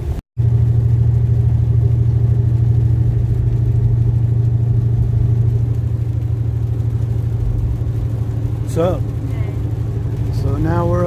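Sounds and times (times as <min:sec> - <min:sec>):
truck engine droning inside cab: 0:00.0 - 0:11.0.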